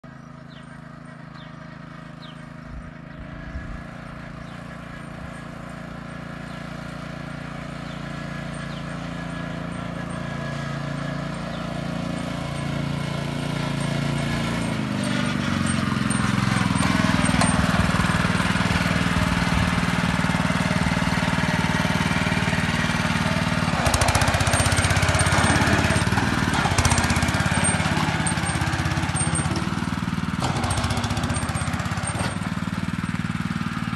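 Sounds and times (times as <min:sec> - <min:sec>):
walking tractor engine running: 0:00.0 - 0:33.9.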